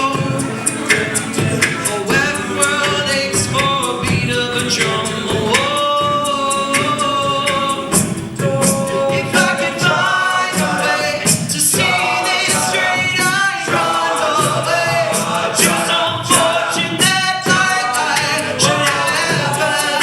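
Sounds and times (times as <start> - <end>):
a cappella group singing: 0.0 - 20.0
vocal percussion beat: 0.0 - 20.0.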